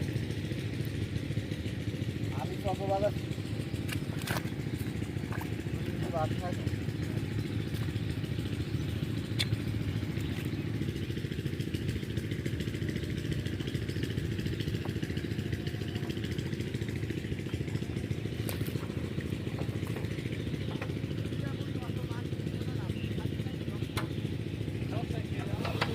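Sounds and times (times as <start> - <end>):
diesel tiller engine running: 0.0 - 25.9.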